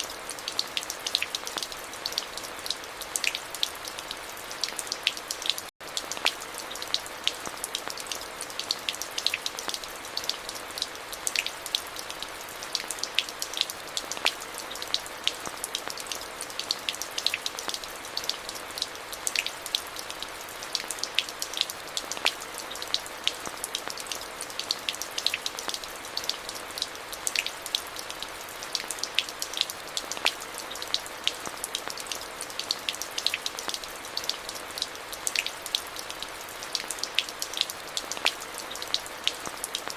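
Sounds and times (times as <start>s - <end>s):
raindrops ticking: 0.0s - 39.9s
steady rain: 0.0s - 39.9s.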